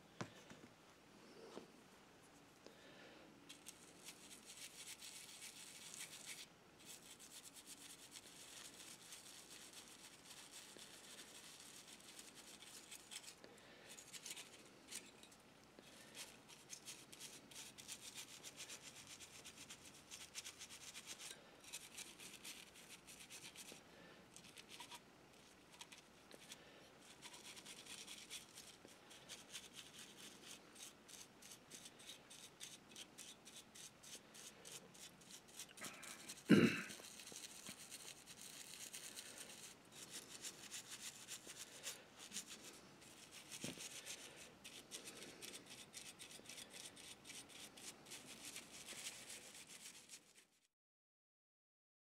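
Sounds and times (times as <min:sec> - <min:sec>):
toothbrush scrubbing metal: 0:03.5 - 0:50.6.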